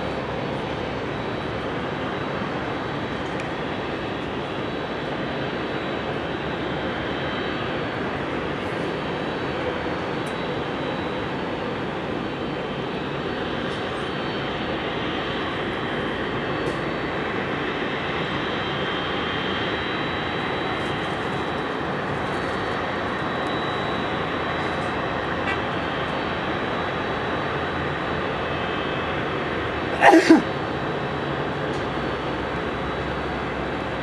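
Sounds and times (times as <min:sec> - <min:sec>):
jet engines rushing hum: 0:00.0 - 0:34.0.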